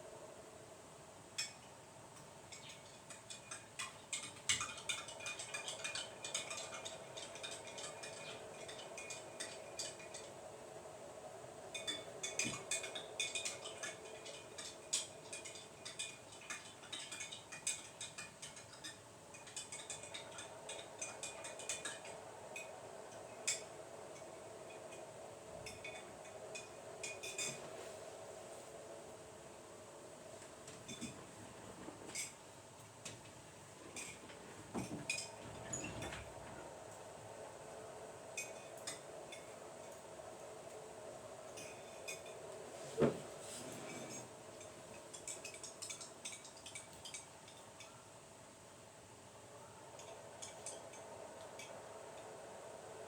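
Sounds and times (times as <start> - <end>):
steady low hum: 3.4 - 53.0.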